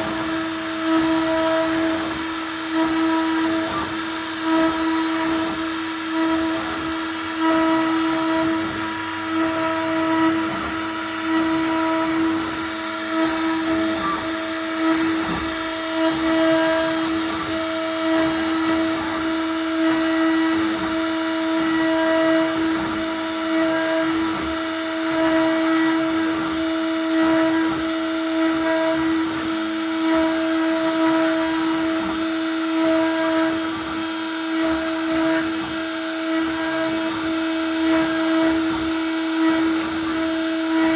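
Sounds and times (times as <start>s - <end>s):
bit carving wood: 0.0s - 40.9s
router spindle whining: 0.0s - 40.9s.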